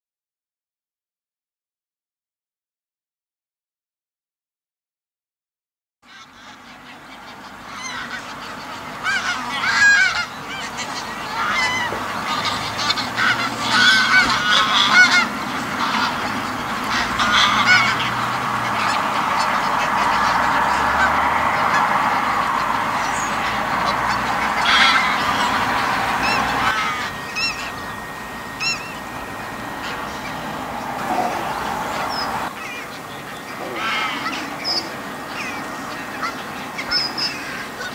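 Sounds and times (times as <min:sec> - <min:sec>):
geese honking: 0:06.1 - 0:37.9.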